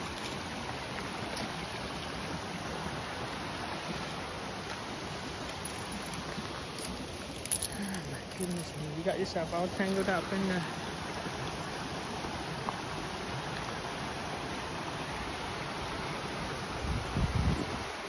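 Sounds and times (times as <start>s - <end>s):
creek water running over rocks: 0.0s - 18.0s.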